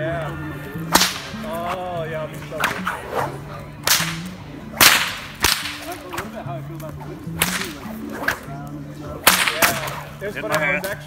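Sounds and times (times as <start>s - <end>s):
faint chatter: 0.0s - 11.0s
whip cracking: 0.9s - 1.6s, 2.5s - 11.0s.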